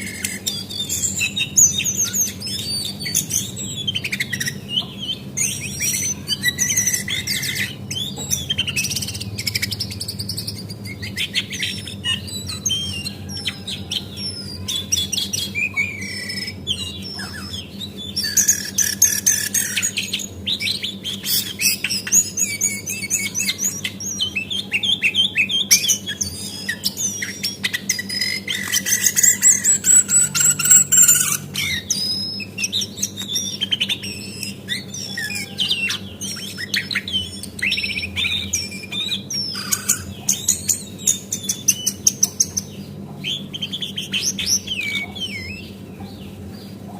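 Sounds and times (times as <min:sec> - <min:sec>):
bird singing chirps and whistles: 0:00.0 - 0:46.7.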